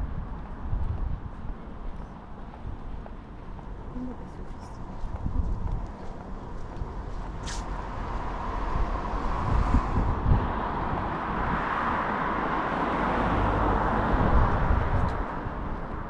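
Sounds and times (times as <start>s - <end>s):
vehicle road noise: 0.0s - 16.0s.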